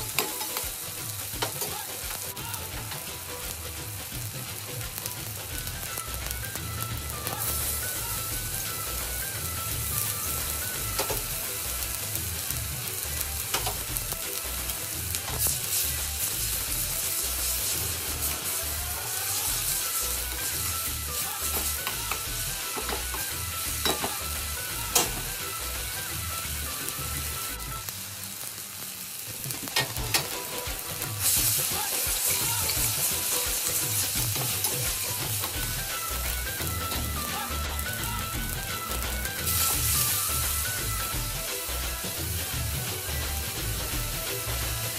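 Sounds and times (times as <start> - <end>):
background music with beat: 0.0 - 28.5, 29.2 - 44.9
food sizzling in oil: 0.0 - 44.9
liquid hissing in hot pan: 0.0 - 44.9.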